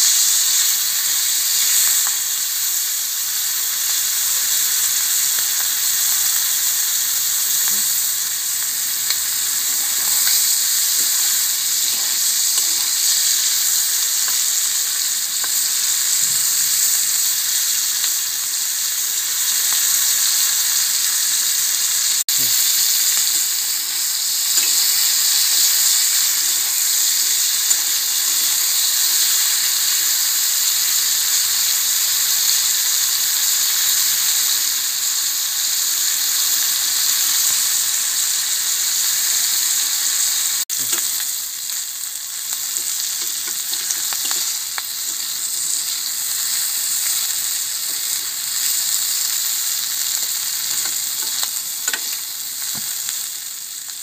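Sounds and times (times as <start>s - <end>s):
prawns sizzling in hot oil: 0.0s - 54.0s.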